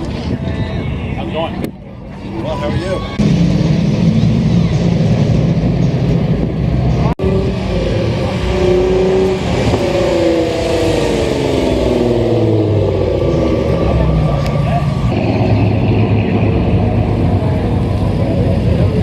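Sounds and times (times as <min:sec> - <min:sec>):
car engine running loudly: 0:00.0 - 0:19.0.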